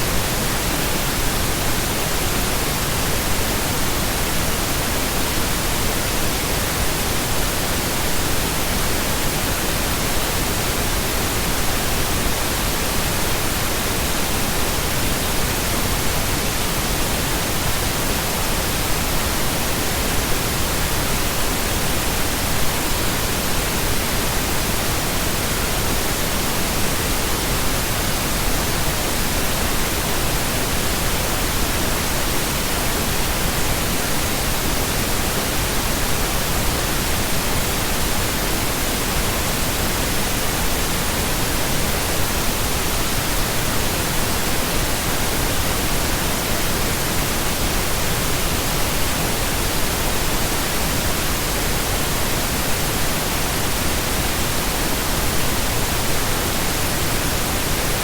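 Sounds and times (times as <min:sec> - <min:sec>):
pink noise hiss: 0:00.0 - 0:58.0.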